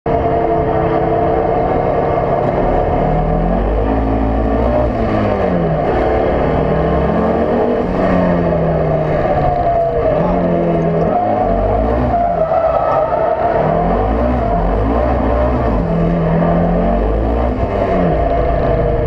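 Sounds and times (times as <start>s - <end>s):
race car engine revving: 0.1s - 19.0s.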